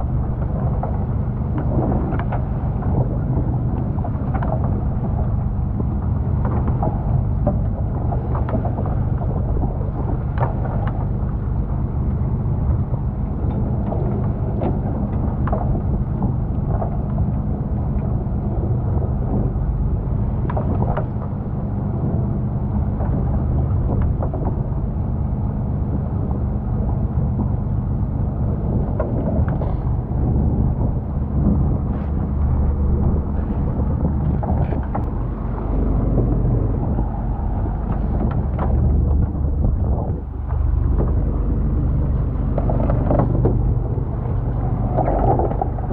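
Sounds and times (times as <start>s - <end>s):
boat engine humming: 0.0s - 45.9s
wind on microphone: 0.0s - 45.9s.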